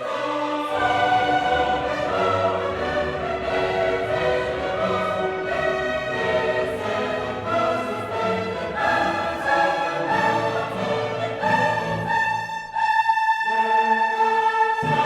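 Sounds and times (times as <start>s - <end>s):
choir singing sustained notes: 0.0s - 15.0s
orchestra playing: 0.0s - 15.0s.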